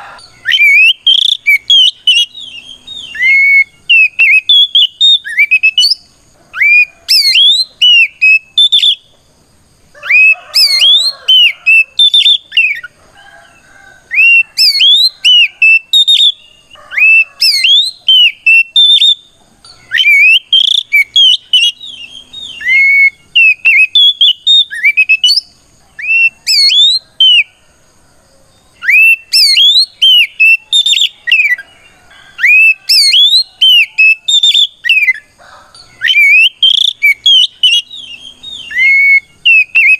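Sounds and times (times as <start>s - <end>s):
bird singing whistled phrases: 0.0s - 9.1s, 10.0s - 12.9s, 14.1s - 19.2s, 19.8s - 27.5s, 28.8s - 31.6s, 32.4s - 35.2s, 36.0s - 39.9s.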